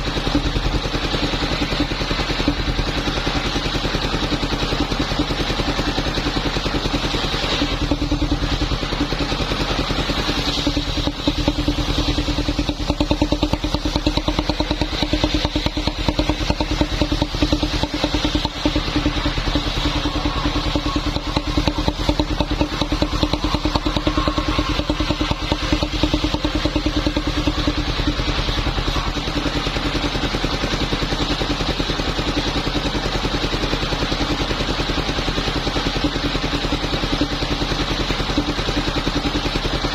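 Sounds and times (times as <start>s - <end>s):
sawing machine engine running: 0.0s - 39.9s.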